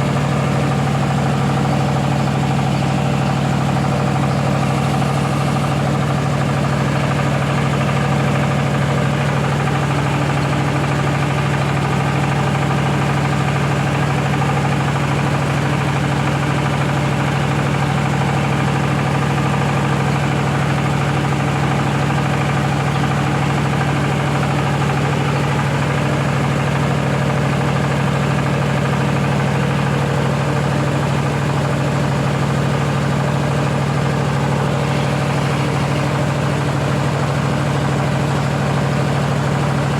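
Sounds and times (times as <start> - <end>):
rice milling machine drone: 0.0 - 39.9.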